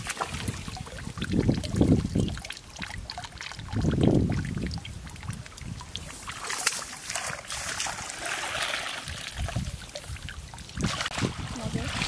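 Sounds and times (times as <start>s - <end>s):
water trickling through basket: 0.0s - 12.0s.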